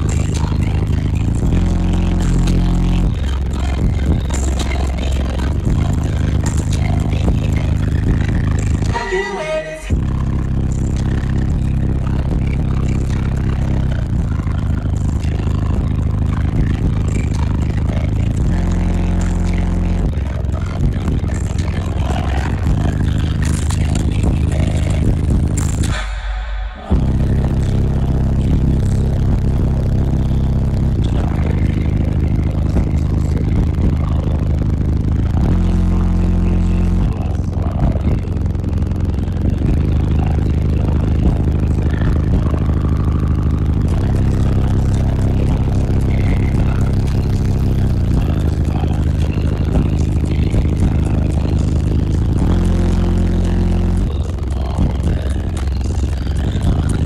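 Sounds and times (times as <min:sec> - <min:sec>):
deep bass notes from subwoofers: 0:00.0 - 0:57.0.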